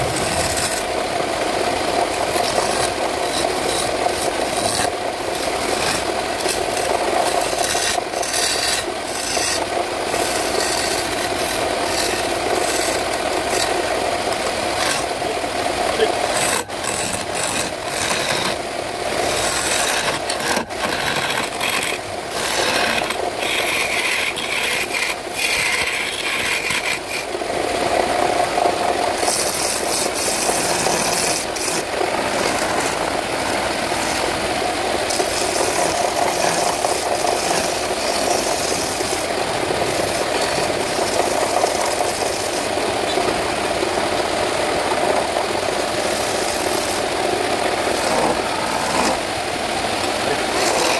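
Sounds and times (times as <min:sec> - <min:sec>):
chisel scraping spinning wood: 0:00.0 - 0:43.6, 0:44.6 - 0:50.9
lathe motor hum: 0:00.0 - 0:50.9.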